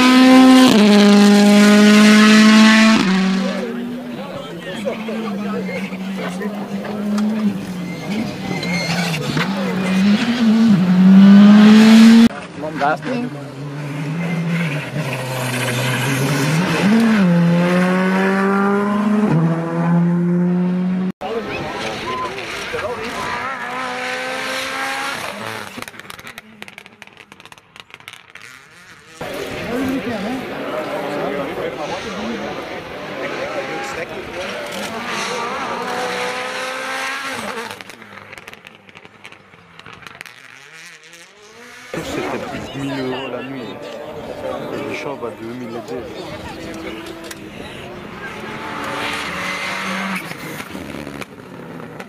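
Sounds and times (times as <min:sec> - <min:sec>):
exhaust crackles: 0:00.0 - 0:52.0
rally car engine approaching: 0:00.0 - 0:52.0.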